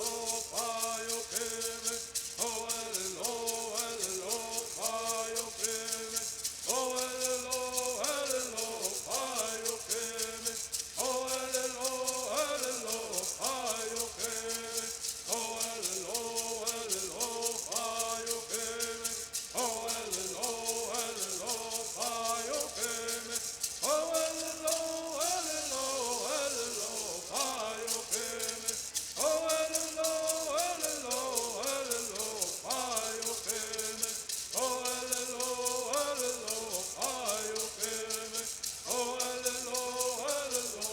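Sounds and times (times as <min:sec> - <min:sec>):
rattles shaking: 0:00.0 - 0:40.9
voices singing: 0:00.0 - 0:40.9.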